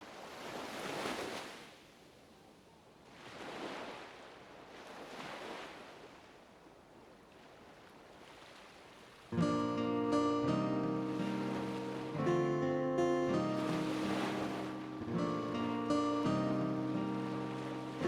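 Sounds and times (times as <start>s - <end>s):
ocean waves washing in: 0.0s - 1.9s, 3.0s - 18.0s.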